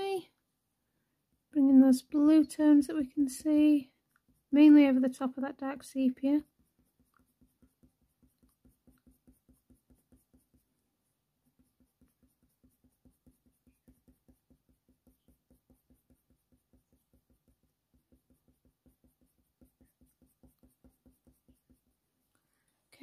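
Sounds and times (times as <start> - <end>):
coloured pencil strokes on paper: 1.3 - 23.0.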